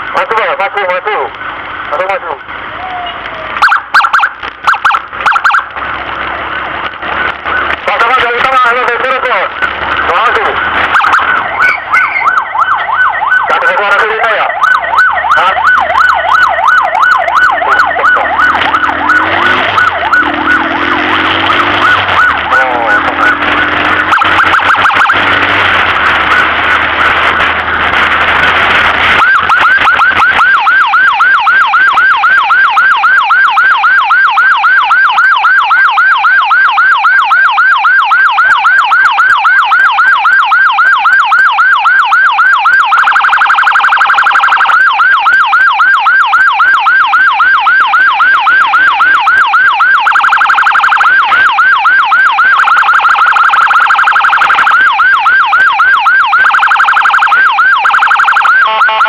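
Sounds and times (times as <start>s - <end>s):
electronic siren yelping: 1.9s - 5.8s, 7.4s - 59.0s
steady held siren tone: 10.1s - 59.0s.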